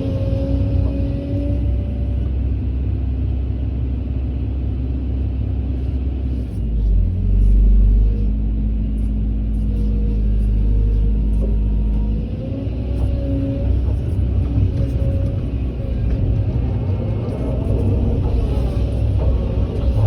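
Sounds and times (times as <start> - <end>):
heavy diesel engine rumbling: 0.0 - 20.0.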